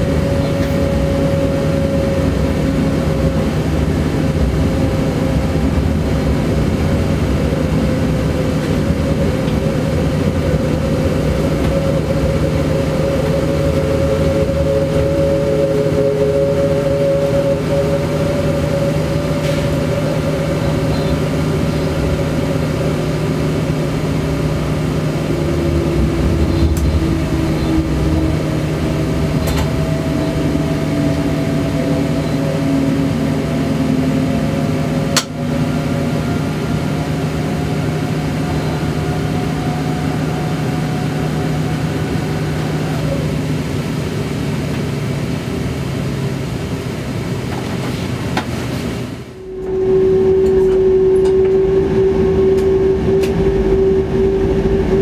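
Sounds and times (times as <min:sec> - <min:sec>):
traction motor whine: 0:00.0 - 0:46.5, 0:49.0 - 0:55.0
train running hum and rumble: 0:00.0 - 0:55.0.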